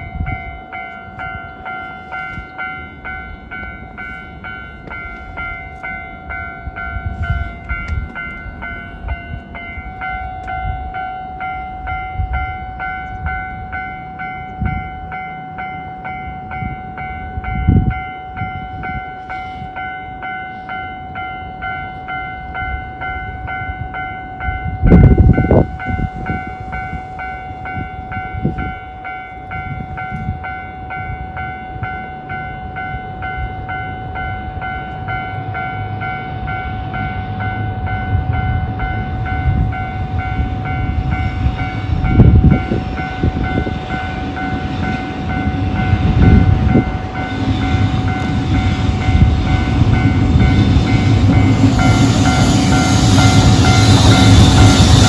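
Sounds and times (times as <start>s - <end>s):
level-crossing warning bell: 0.0s - 55.0s
train rumble: 0.0s - 55.0s.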